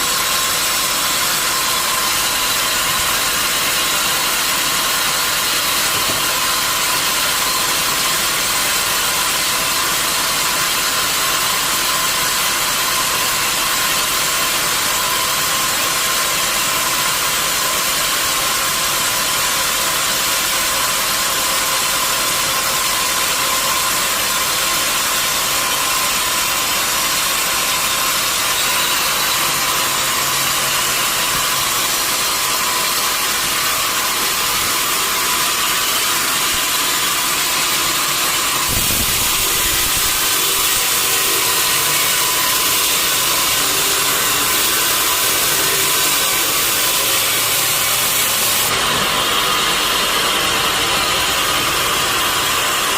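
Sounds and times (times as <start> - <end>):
sawmill machinery running: 0.0 - 52.9.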